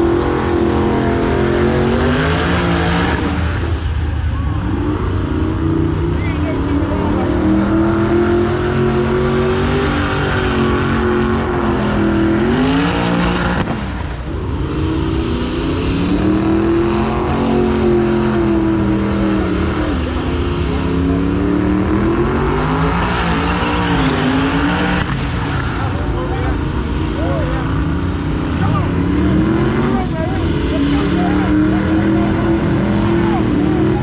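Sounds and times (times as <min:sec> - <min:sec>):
car engine revving high: 0:00.0 - 0:34.0.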